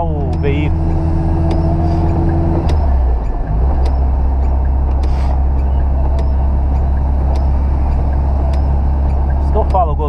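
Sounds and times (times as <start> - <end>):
car engine and tyres drone: 0.0 - 10.0
windscreen wipers ticking: 0.0 - 10.0.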